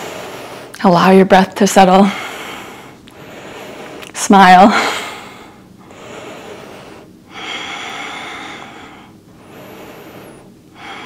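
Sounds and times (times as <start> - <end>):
person breathing slowly: 0.0 - 0.8, 2.0 - 11.0.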